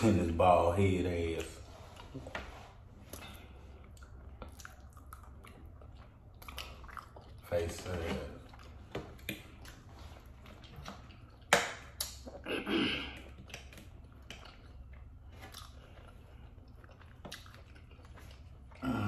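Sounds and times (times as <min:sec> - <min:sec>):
chewing and biting food: 0:01.1 - 0:19.0.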